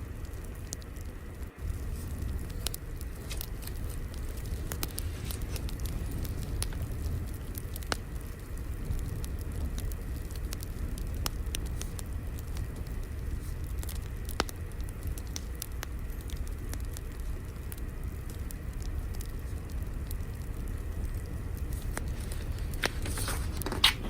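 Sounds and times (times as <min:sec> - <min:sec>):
fire low rumble: 0:00.0 - 0:24.0
fire pops and snaps: 0:00.0 - 0:24.0.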